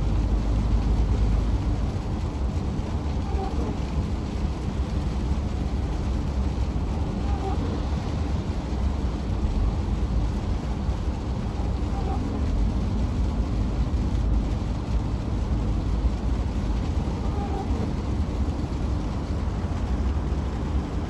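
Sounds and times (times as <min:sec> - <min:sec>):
truck engine and tyres droning: 0:00.0 - 0:21.0.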